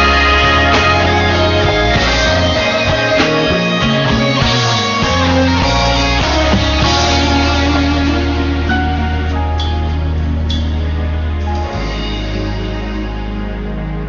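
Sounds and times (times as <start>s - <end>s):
gospel music: 0.0s - 14.0s
guitar: 0.0s - 14.0s
steady bass: 0.0s - 14.0s.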